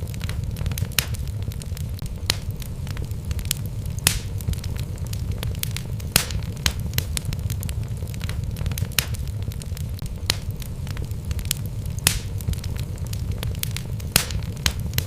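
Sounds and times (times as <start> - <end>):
burning logs rumbling: 0.0 - 15.0
fire popping and snapping: 0.0 - 15.0.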